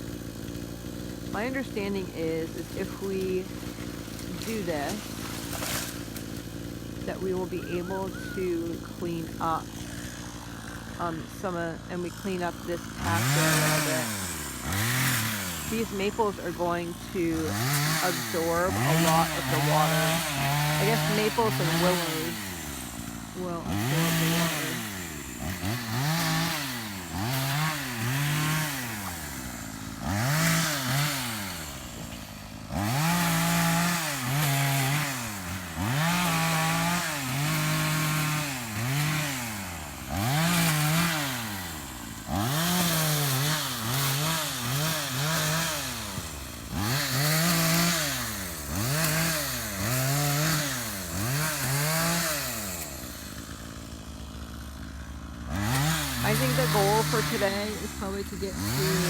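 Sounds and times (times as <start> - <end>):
chainsaw revving cutting wood: 0.0 - 59.0.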